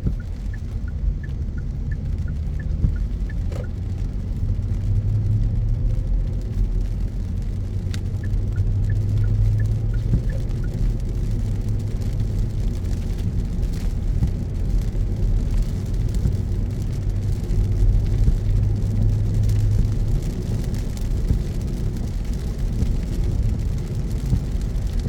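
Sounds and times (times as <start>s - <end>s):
car engine and tyres humming: 0.0s - 25.0s
faint light ticking: 0.0s - 25.0s
rain and road spray: 0.0s - 25.0s.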